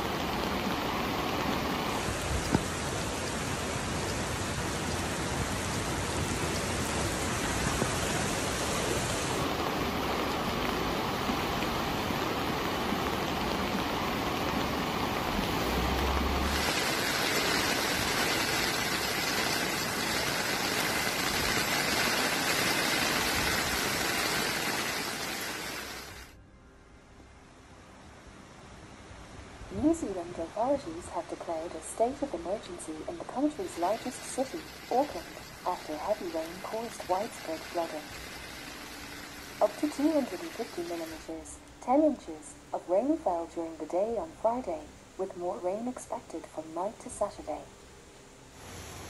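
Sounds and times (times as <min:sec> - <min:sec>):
heavy rain: 0:00.0 - 0:26.4, 0:27.6 - 0:49.0
rushing floodwater: 0:00.0 - 0:26.4, 0:28.4 - 0:41.7.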